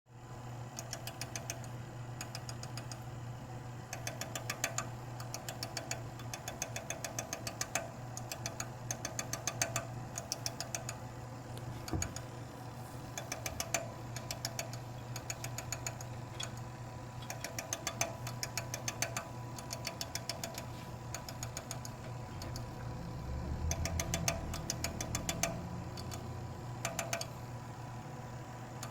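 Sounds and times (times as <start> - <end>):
steady low hum: 0.1 - 28.9
fan rapid ticking: 0.6 - 28.9.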